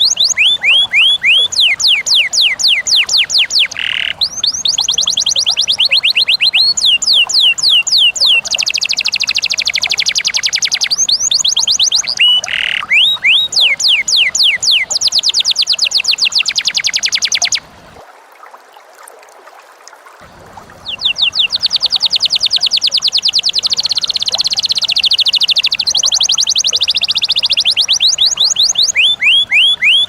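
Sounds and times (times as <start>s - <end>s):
canary singing: 0.0s - 17.7s, 20.5s - 30.0s.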